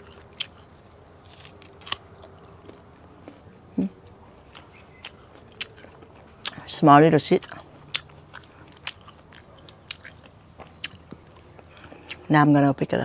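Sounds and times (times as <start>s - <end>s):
crunchy chewing: 0.0s - 12.3s.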